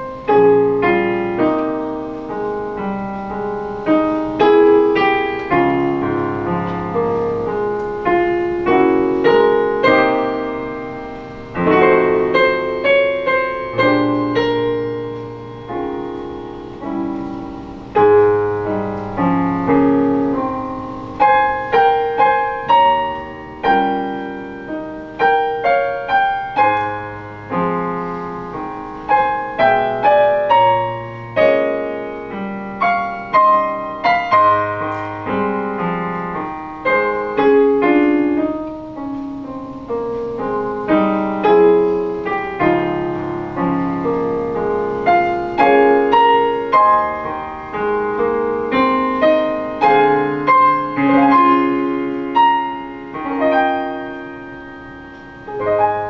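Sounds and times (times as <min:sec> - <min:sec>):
slow piano piece: 0:00.0 - 0:56.0.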